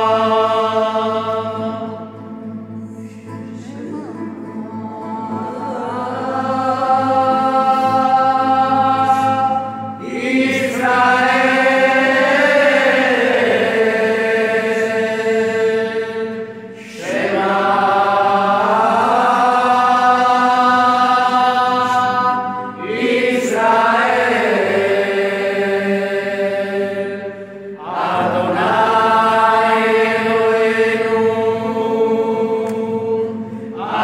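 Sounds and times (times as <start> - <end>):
group singing in church: 0.0 - 34.0.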